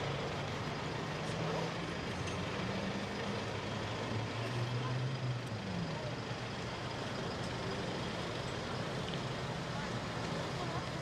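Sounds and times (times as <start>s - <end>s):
street noise: 0.0s - 11.0s
vehicle engine humming low: 0.0s - 11.0s.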